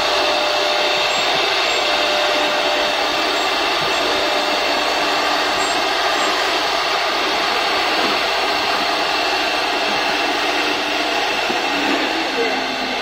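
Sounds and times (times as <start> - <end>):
wood router spindles whining: 0.0 - 13.0.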